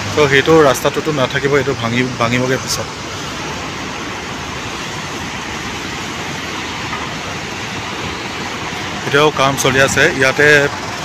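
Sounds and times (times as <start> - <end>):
turbulent water rushing: 0.0 - 11.0.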